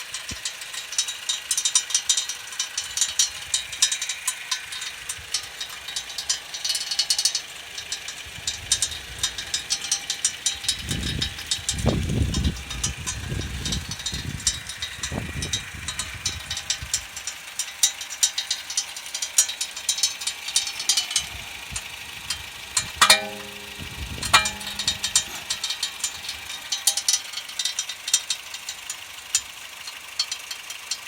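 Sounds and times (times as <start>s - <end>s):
car suspension clicking and rattling: 0.0s - 31.0s.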